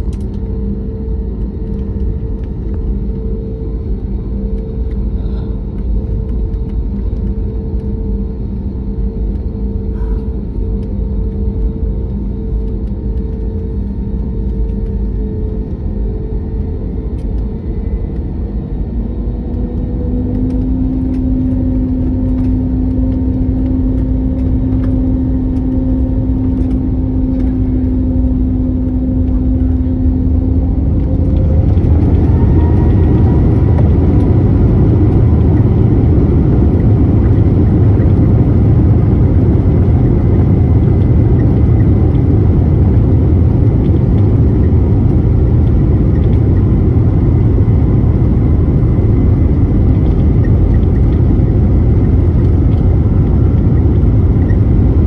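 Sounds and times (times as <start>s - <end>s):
jet engines heard from cabin: 0.0s - 55.0s.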